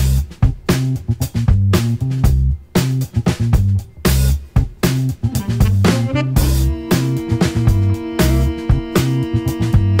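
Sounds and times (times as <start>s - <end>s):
upbeat instrumental music: 0.0s - 10.0s.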